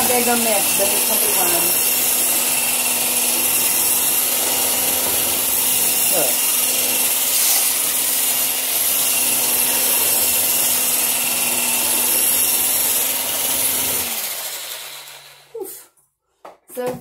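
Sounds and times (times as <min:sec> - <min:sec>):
blades churning powder in bucket: 0:00.0 - 0:15.2
immersion blender motor: 0:00.0 - 0:15.6.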